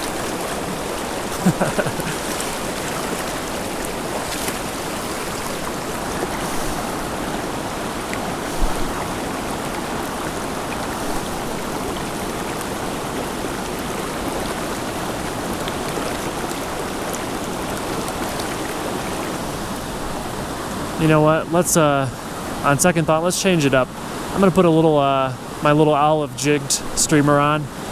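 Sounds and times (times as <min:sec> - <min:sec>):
creek rushing over rocks: 0:00.0 - 0:27.9.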